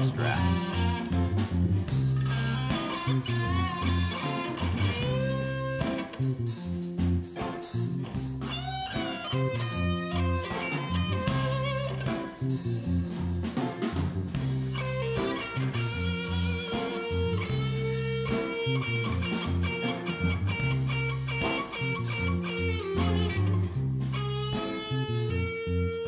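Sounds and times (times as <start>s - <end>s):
guitar-led rock music: 0.0s - 26.0s.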